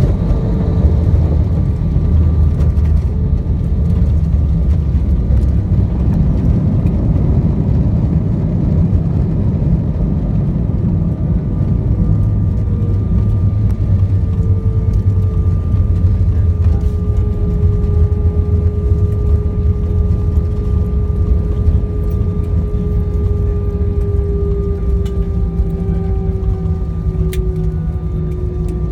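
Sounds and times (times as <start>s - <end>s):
faint whining tones: 0.0s - 28.9s
jet airliner engine rumble: 0.0s - 28.9s.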